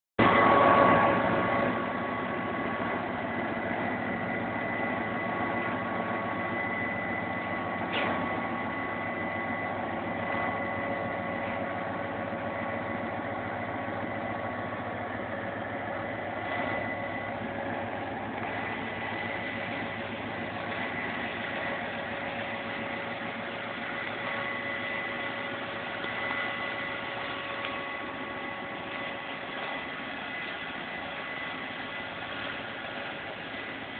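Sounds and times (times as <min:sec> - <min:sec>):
diesel locomotive engine rumble: 0:00.2 - 0:33.9
high whine: 0:00.2 - 0:33.9.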